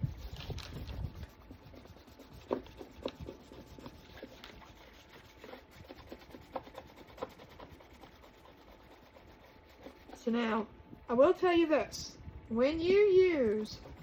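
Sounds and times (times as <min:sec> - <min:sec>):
rubbing and scraping on silicone mat: 0:00.0 - 0:10.6, 0:13.3 - 0:14.0.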